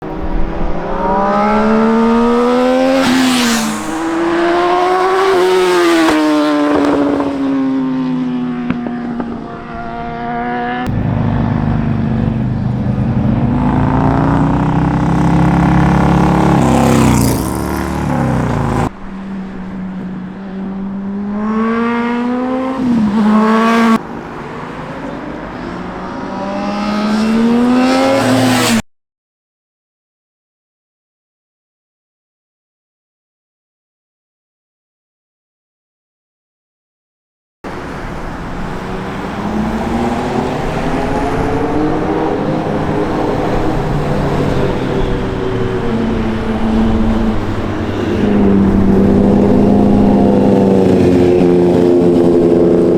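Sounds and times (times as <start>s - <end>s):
motorcycle engines revving through gears: 0.0s - 24.2s, 24.8s - 28.8s, 37.7s - 52.9s.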